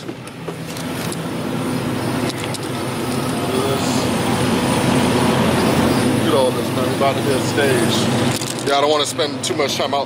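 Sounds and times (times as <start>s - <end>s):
car engines idling: 0.0s - 10.0s.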